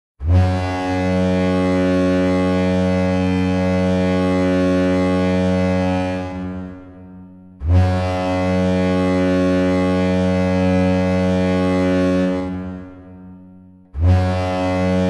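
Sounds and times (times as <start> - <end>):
deep goal horn blast: 0.2 - 15.0.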